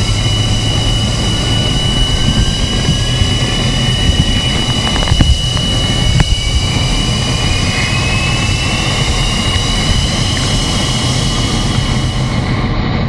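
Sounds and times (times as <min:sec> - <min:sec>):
jet engines running with whine: 0:00.0 - 0:13.0.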